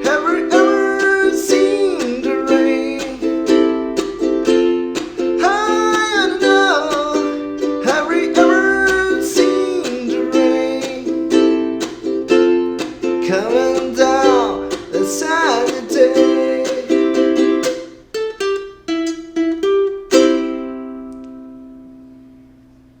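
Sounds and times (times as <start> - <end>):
ukulele strumming: 0.0 - 22.7
ukulele melody line: 0.0 - 23.0.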